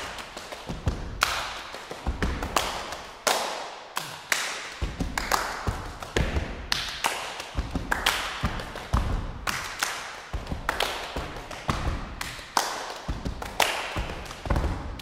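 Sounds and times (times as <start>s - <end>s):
hand claps: 0.0s - 15.0s
slaps on the body: 0.0s - 15.0s.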